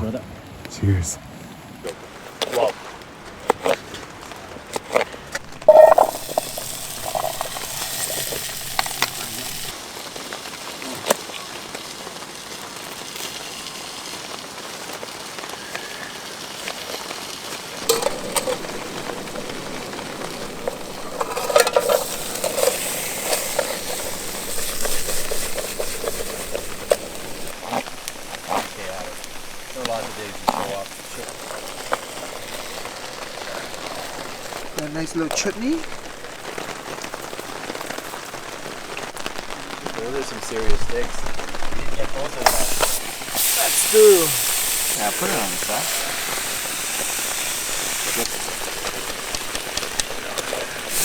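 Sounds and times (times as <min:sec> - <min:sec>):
food sizzling in a frying pan: 0:05.4 - 0:51.0.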